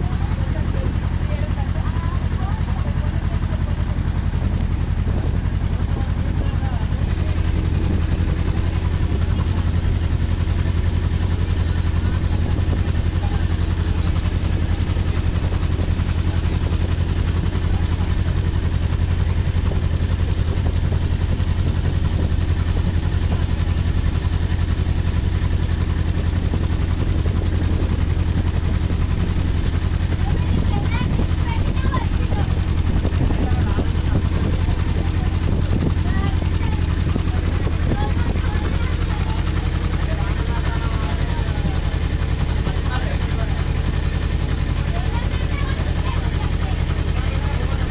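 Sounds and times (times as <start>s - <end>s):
boat engine droning: 0.0s - 47.9s.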